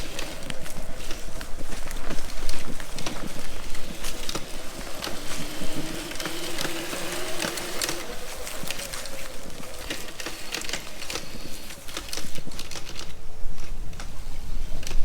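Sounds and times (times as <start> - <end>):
electric dirt bike motor whining: 0.0 - 12.9.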